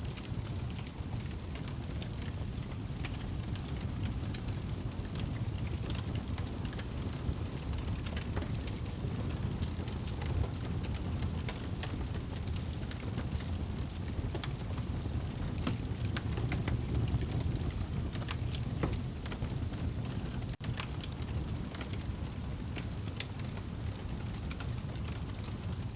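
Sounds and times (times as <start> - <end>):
fire crackling and popping: 0.0 - 25.9
rain: 0.0 - 25.9.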